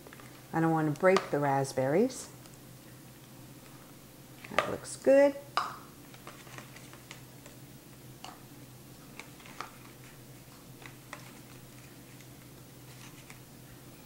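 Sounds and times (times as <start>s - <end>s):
low room tone hum: 0.0s - 14.0s.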